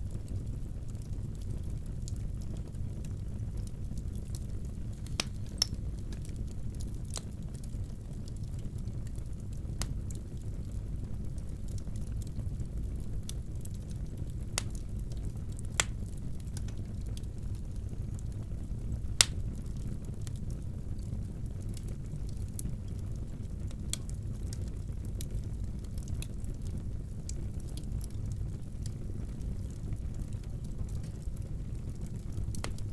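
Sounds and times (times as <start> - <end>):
fire crackling and popping: 0.0 - 32.9
fire rumble: 0.0 - 32.9.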